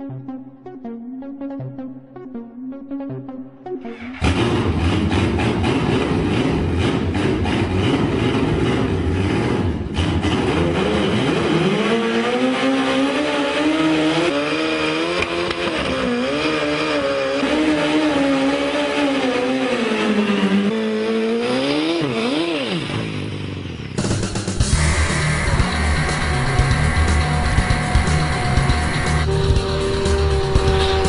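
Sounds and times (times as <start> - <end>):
motorcycle engine revving: 3.9 - 31.0.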